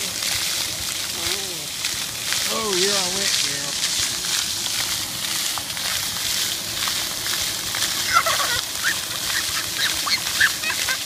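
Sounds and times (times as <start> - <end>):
fountain jets spraying water: 0.0 - 11.0.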